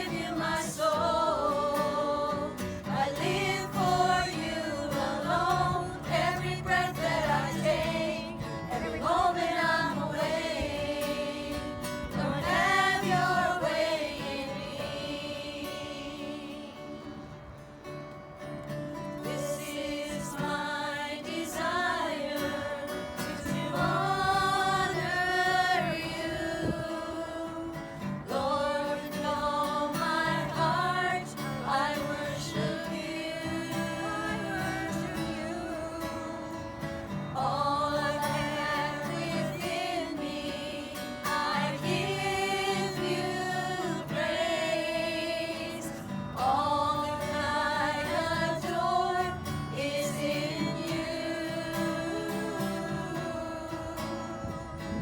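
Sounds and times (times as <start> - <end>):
group of voices singing: 0.0 - 17.6, 19.0 - 55.0.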